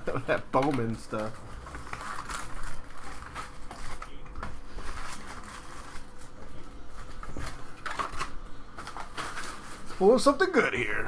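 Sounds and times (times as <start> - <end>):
foil wrappers crinkling: 0.0 - 11.0.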